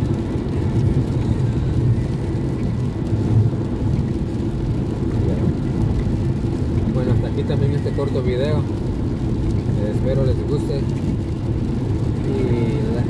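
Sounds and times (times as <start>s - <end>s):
car interior road and engine noise: 0.0s - 13.0s.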